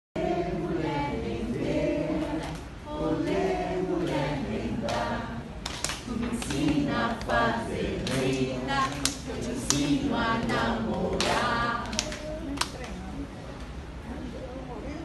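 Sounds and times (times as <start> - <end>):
group singing a cappella: 0.2 - 12.8.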